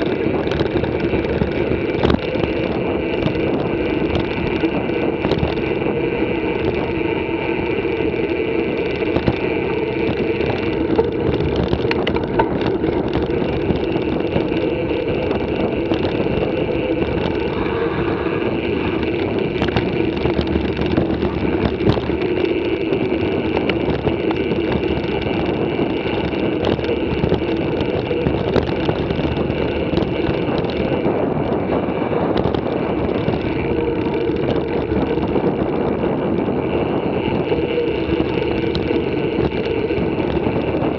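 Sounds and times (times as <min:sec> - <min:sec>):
bike clicks and rattles: 0:00.0 - 0:40.9
wind on microphone: 0:00.0 - 0:40.9.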